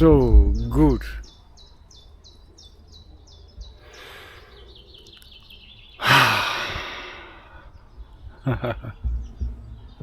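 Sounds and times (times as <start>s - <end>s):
songbird chirping rapidly: 0.0s - 10.0s.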